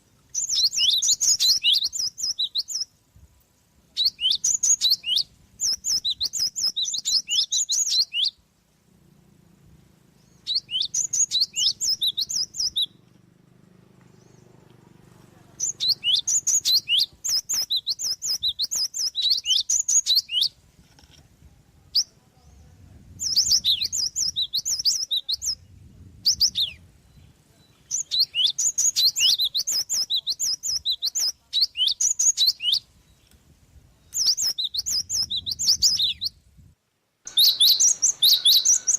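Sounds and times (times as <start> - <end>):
sparrow singing high chirps: 0.3 - 3.0, 3.9 - 8.4, 10.0 - 13.1, 14.1 - 14.7, 15.3 - 20.6, 21.8 - 33.4, 34.0 - 36.7, 37.3 - 38.9.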